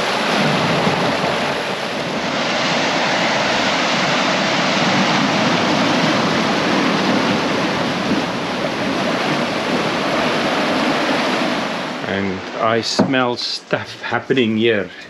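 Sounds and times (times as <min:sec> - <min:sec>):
wake water rushing along hull: 0:00.0 - 0:15.0
waves breaking: 0:00.0 - 0:15.0.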